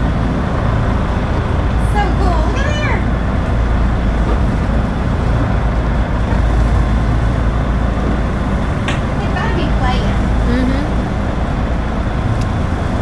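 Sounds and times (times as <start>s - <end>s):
boat engine rumble: 0.0s - 13.0s
water rushing along hull: 0.0s - 13.0s.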